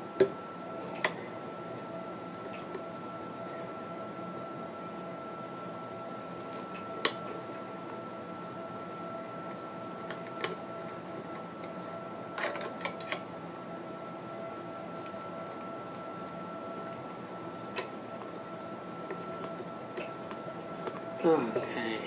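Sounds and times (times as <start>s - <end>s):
faint hum with high tone: 0.0s - 22.0s.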